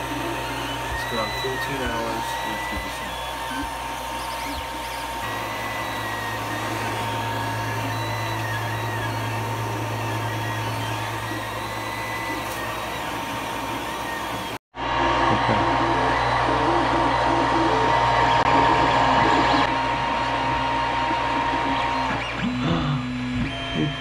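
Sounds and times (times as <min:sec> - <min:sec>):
cooling fans whirring: 0:00.0 - 0:24.0
stepper motors whining: 0:00.0 - 0:24.0.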